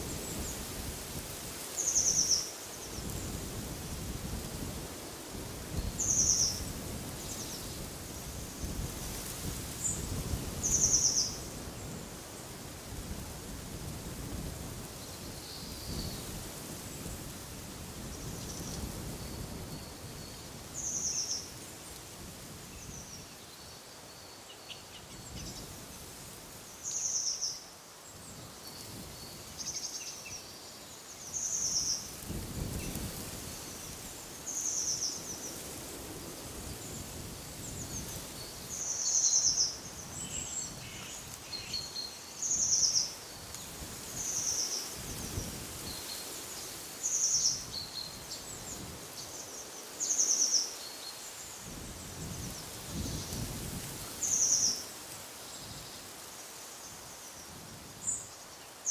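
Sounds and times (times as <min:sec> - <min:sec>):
wind through trees: 0:00.0 - 0:58.9.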